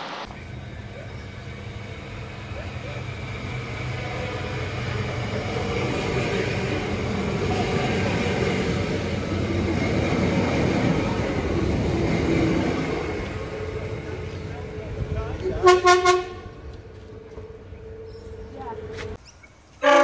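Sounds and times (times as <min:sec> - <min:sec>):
train wheels rumbling on rails: 0:00.0 - 0:19.2.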